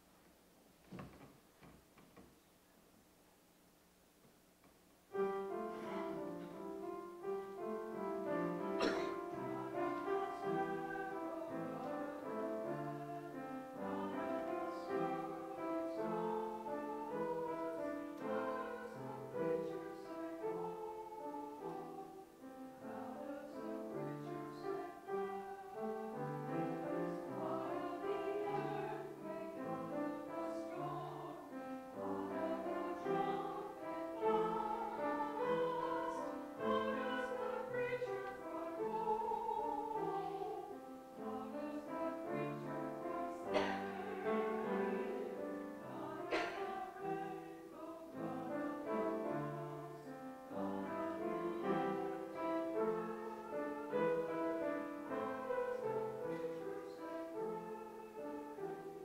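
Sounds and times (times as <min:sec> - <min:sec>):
piano accompaniment: 0:05.1 - 0:59.0
voices singing church music: 0:05.1 - 0:59.0.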